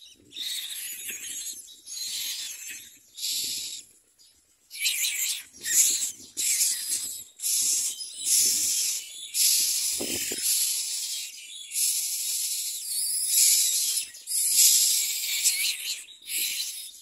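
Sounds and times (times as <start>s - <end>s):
nestlings begging with hissing rasps: 0.2s - 4.0s, 4.7s - 17.0s.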